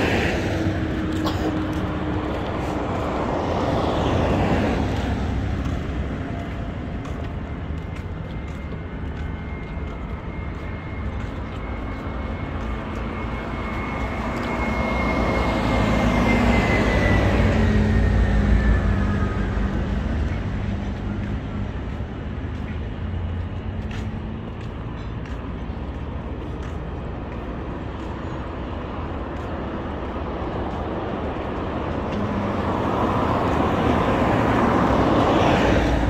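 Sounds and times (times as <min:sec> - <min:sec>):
vehicles passing on wet road: 0:00.0 - 0:36.0.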